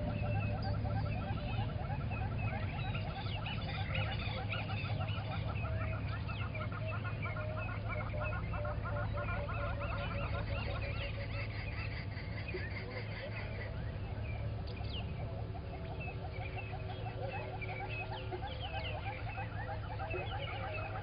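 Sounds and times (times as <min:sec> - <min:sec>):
birds chirping: 0:00.0 - 0:21.0
steady low hum: 0:00.0 - 0:21.0.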